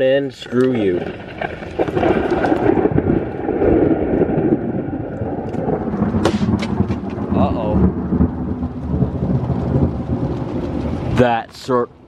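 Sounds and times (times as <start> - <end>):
heavy rain: 0.0 - 12.0
thunder rumbling: 0.0 - 12.0
sharp thunder crack: 0.8 - 11.9.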